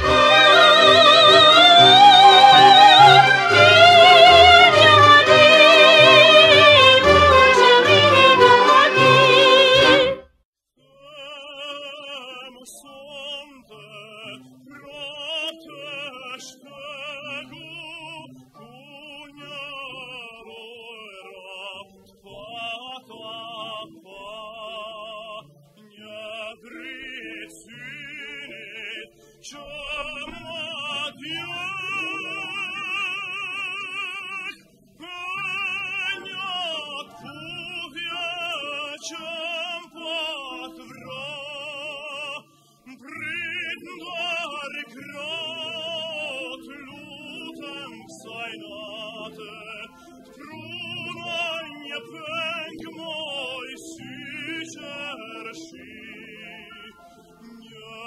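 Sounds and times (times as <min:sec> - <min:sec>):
operatic singing: 0:00.0 - 0:58.0.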